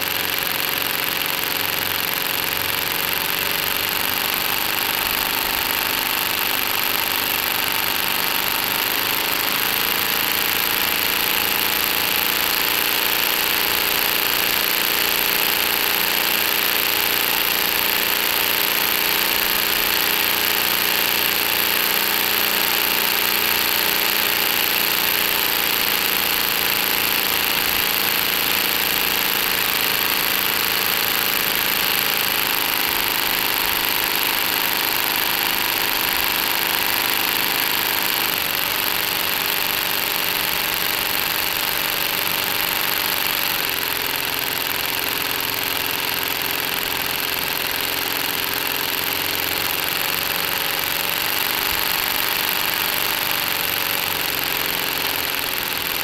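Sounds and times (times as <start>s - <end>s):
toy engine mechanical clatter: 0.0s - 56.0s.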